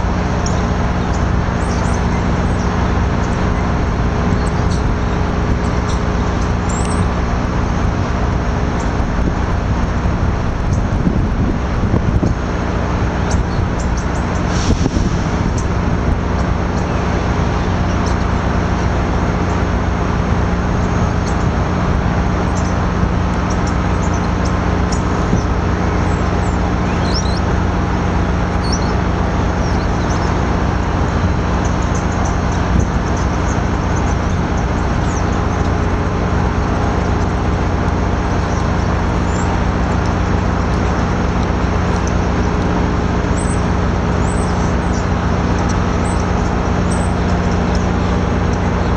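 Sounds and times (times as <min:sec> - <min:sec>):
diesel train engine idling: 0:00.0 - 0:48.9.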